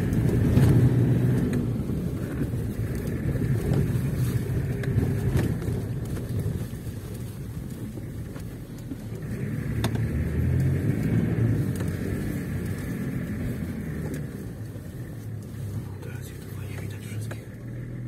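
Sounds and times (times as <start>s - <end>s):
vehicle engine under load: 0.0s - 18.0s.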